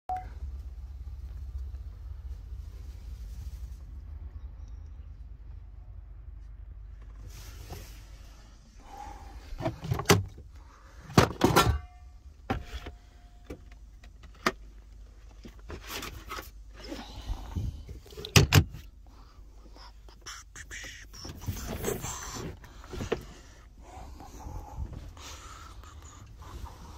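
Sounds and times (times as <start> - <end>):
low steady rumble: 0.1 - 26.9.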